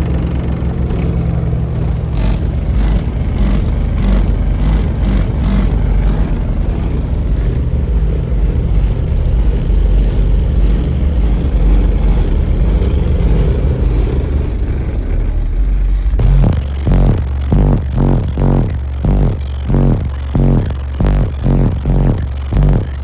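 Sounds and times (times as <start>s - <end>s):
deep loud bass music: 0.0s - 23.0s.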